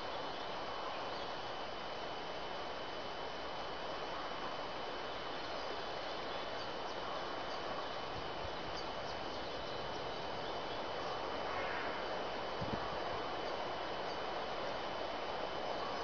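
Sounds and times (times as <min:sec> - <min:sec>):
outdoor background hiss: 0:00.0 - 0:16.0
thin high whine: 0:00.0 - 0:16.0.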